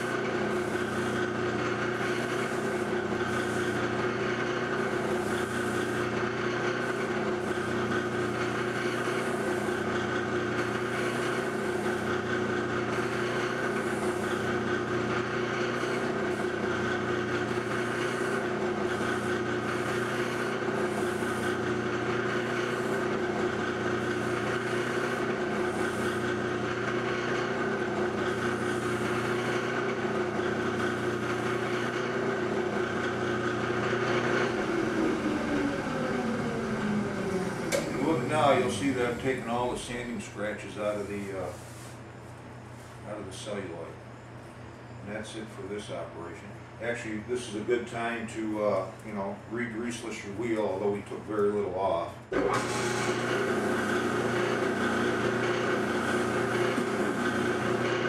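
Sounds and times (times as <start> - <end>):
polishing machine humming: 0.0 - 42.3, 51.6 - 58.0.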